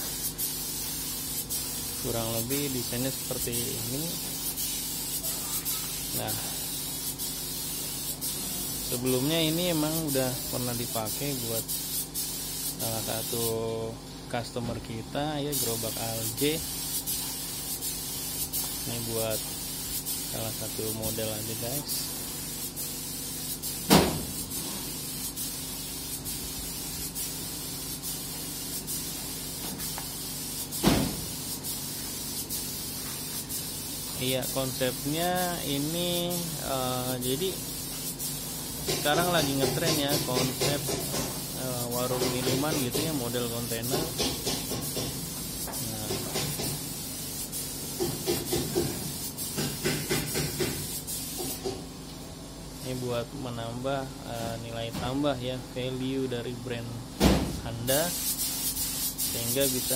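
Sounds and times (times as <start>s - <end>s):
paint spray gun hissing: 0.0s - 14.2s, 15.5s - 51.9s, 57.9s - 59.9s.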